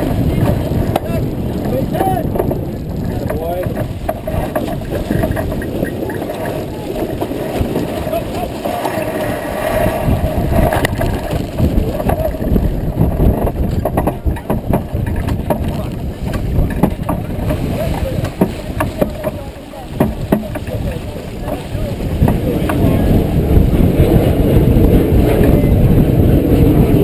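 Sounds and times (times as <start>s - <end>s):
sail flapping and rattling: 0.0s - 27.0s
water rushing along hull: 0.0s - 27.0s
wind buffeting microphone: 0.0s - 27.0s.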